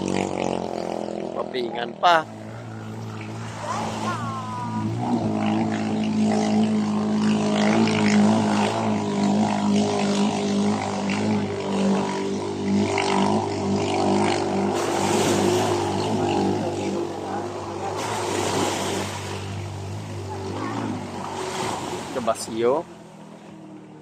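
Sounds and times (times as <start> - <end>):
small boat engine running: 0.0 - 24.0.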